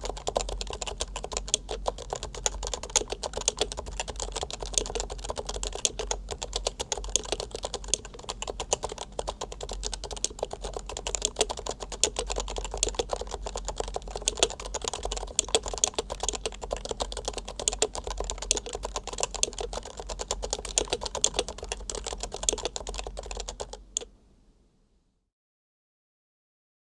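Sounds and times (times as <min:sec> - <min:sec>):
fast keyboard typing: 0:00.0 - 0:24.1.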